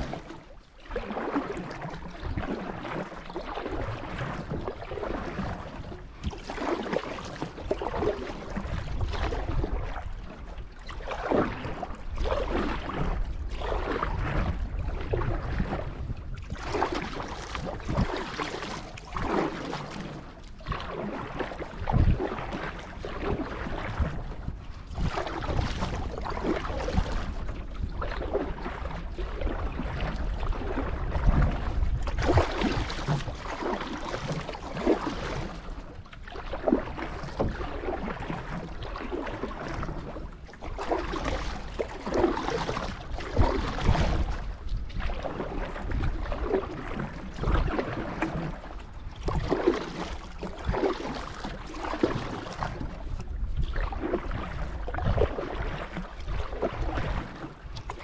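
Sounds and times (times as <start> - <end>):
paddle splashing in water: 0.0 - 58.0.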